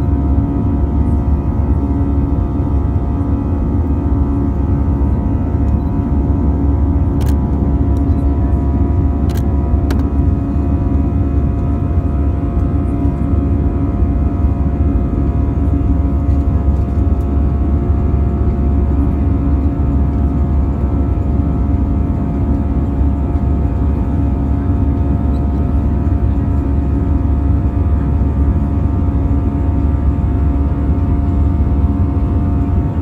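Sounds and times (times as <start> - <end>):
jet engine and airflow rumble: 0.0 - 33.0
steady hums: 0.0 - 33.0.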